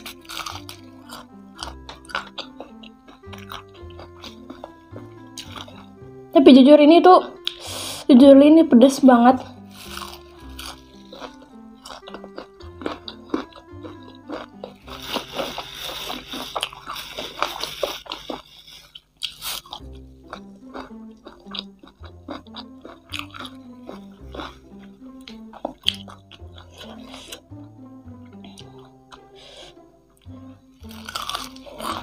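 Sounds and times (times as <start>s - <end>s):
crunching and chewing: 0.0s - 6.0s, 9.4s - 27.5s, 28.3s - 32.0s
background music simple melody: 0.0s - 32.0s.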